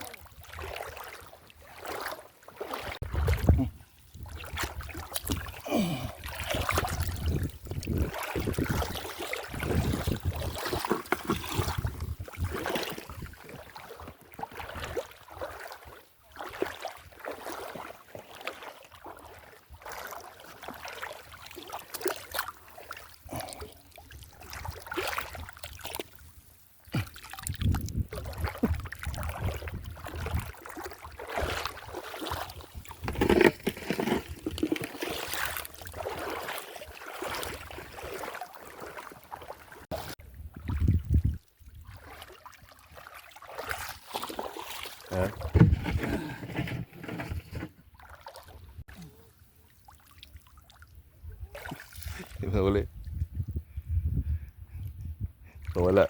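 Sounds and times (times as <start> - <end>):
water splashing and sloshing: 0.0 - 53.7.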